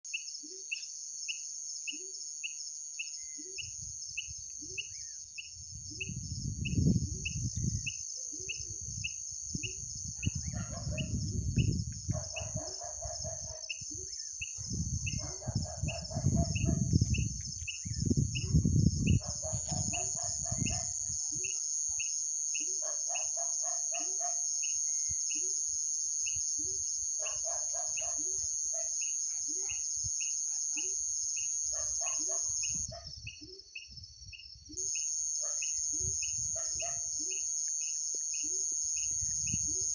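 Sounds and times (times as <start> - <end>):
high-pitched insect drone: 0.1 - 39.9.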